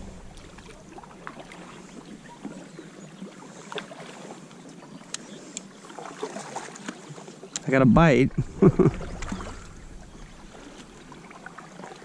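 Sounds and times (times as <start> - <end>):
kayak paddle in water: 0.0 - 12.0.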